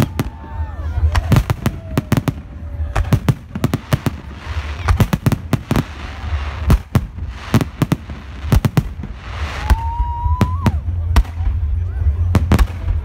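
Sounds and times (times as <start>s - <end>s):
rushing hiss of fireworks: 0.0s - 11.7s
fireworks bursting: 0.0s - 13.0s.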